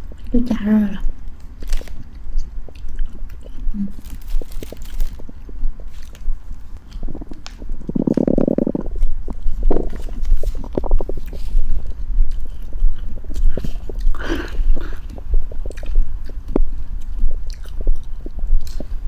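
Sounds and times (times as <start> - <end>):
chewing and biting food: 0.0 - 19.0.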